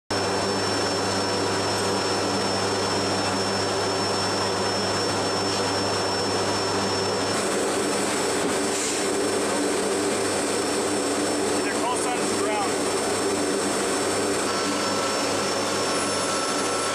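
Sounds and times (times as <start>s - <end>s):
turboprop engines droning: 0.1s - 16.9s
thin high whine: 0.2s - 16.9s.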